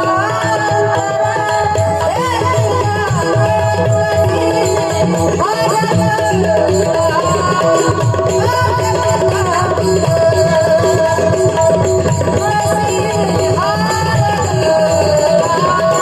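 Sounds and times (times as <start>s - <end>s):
tabla drumming: 0.0s - 16.0s.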